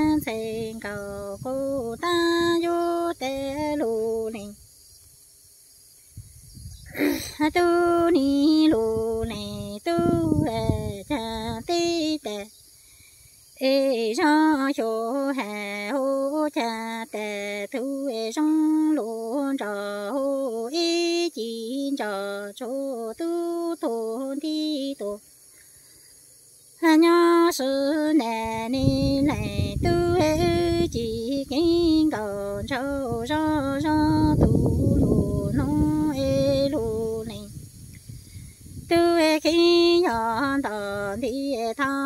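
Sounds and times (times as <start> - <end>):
woman singing unaccompanied: 0.0 - 5.0, 6.3 - 42.0.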